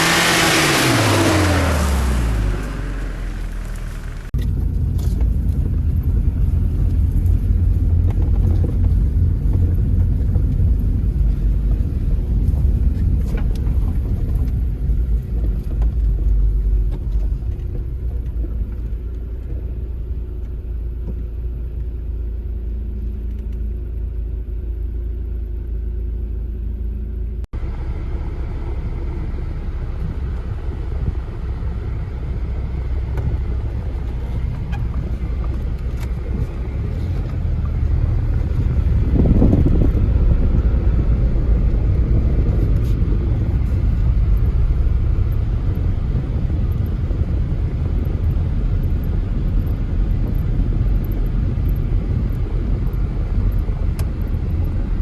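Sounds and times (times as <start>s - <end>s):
engine and drivetrain rumble: 0.0s - 55.0s.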